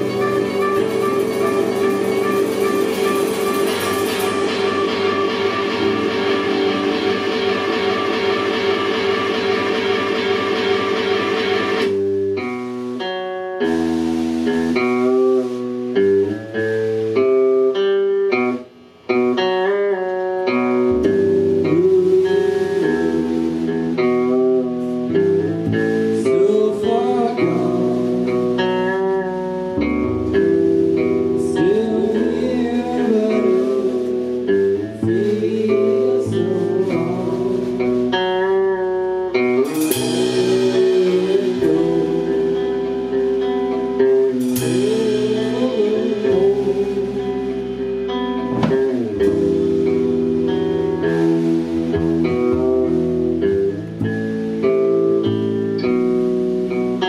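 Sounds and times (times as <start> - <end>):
drum kit: 0.0 - 57.0
electric guitars with bent notes: 0.0 - 57.0
live rock band playing: 0.0 - 57.0.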